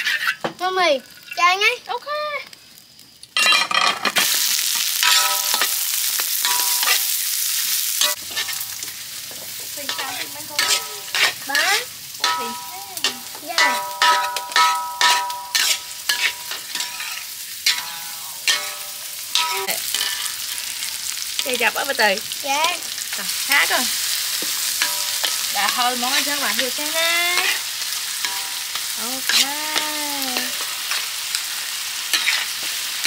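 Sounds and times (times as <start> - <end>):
metal spatula scraping a wok: 0.0 - 0.5, 3.4 - 4.3, 5.0 - 7.2, 7.8 - 21.5, 23.6 - 33.0
food sizzling in hot oil: 0.0 - 33.0.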